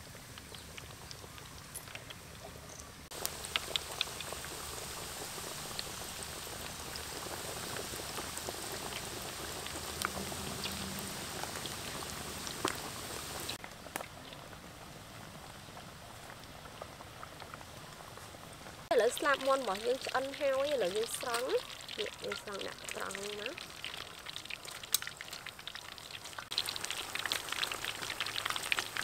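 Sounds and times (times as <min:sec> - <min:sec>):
chicken deep-frying in oil: 0:00.0 - 0:29.0
oil crackles and pops: 0:00.0 - 0:29.0.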